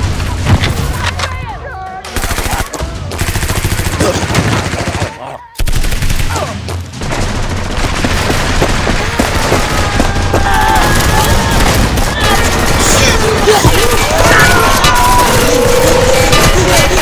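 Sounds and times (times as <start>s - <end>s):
rapid automatic gunfire: 2.1s - 6.4s, 7.0s - 17.0s.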